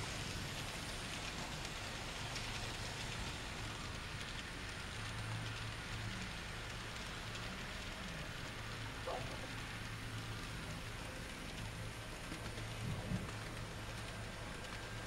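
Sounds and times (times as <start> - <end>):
model train wheels rattling on rails: 0.0 - 15.0.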